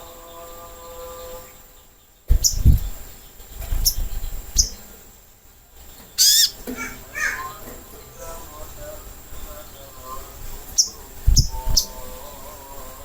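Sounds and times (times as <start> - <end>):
sunbird chirping: 0.0 - 13.0.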